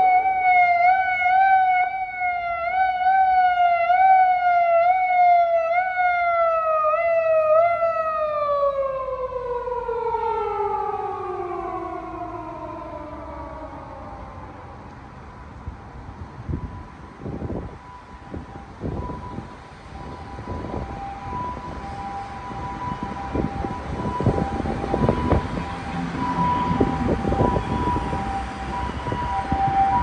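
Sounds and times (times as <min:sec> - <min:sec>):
police car siren: 0:00.0 - 0:30.0.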